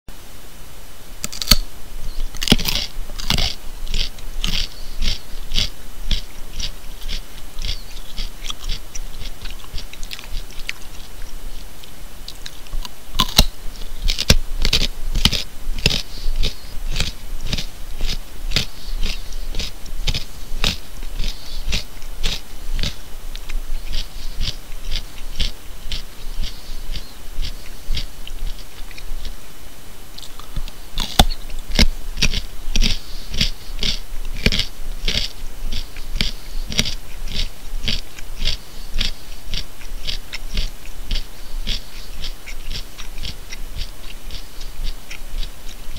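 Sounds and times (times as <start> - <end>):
person chewing carrot crunches: 1.2 - 29.5, 30.1 - 45.9.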